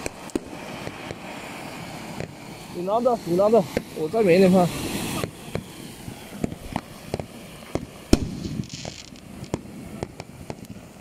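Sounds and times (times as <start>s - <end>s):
firework fountain hissing sparks: 0.0s - 11.0s
sharp crackling pops: 0.0s - 11.0s.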